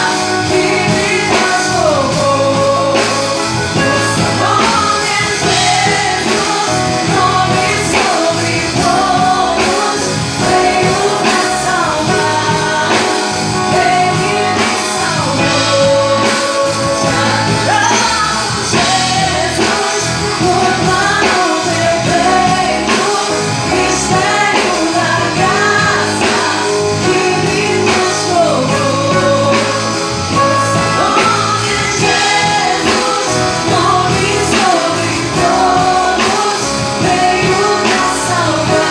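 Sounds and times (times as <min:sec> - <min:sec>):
drums: 0:00.0 - 0:38.9
guitar: 0:00.0 - 0:38.9
woman singing a gospel song: 0:00.0 - 0:38.9.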